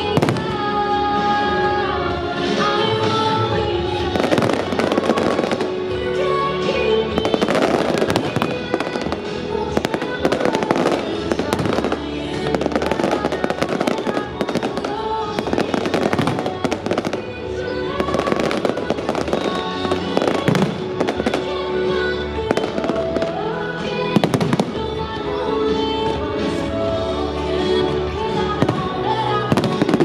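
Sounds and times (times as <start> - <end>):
fireworks bursting and crackling: 0.0 - 26.8, 28.0 - 30.0
loud show music: 0.0 - 30.0.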